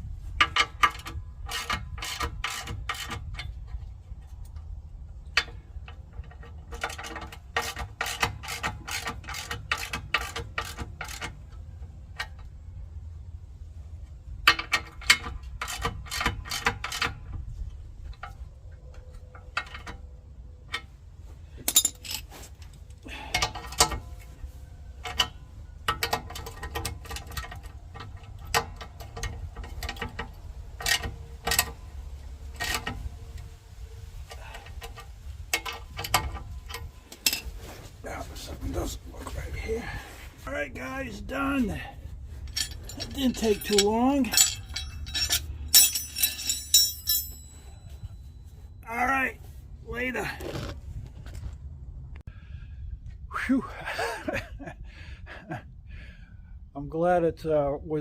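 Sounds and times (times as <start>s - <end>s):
steady low hum: 10.1s - 56.8s.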